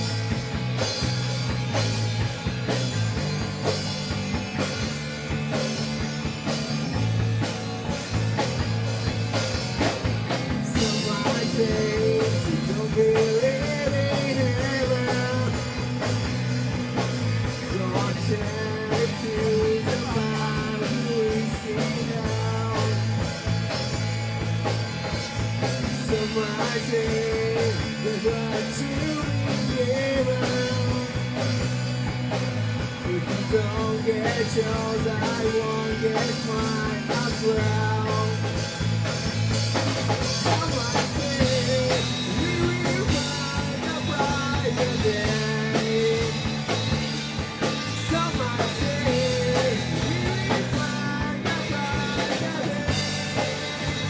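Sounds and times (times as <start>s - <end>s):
drum kit hits: 0.0s - 54.0s
electric guitar and bass: 0.0s - 54.0s.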